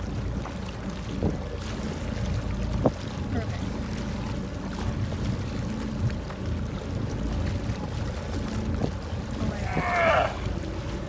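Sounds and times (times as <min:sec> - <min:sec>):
water lapping around raft: 0:00.0 - 0:11.0
wind on microphone: 0:00.8 - 0:03.6, 0:04.2 - 0:11.0.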